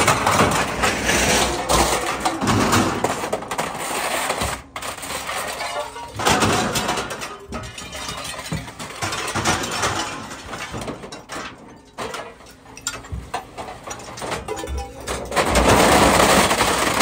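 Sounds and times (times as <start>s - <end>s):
scrap metal clanking and crunching: 0.0s - 17.0s.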